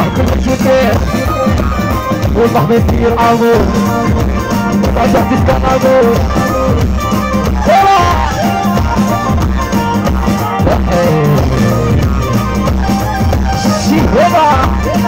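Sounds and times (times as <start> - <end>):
driving drum beat: 0.0 - 15.0
keyboard melody: 0.0 - 15.0.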